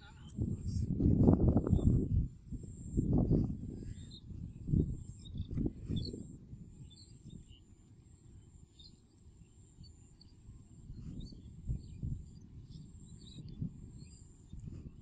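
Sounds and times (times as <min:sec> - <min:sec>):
faint bird chirps: 0:02.6 - 0:15.0.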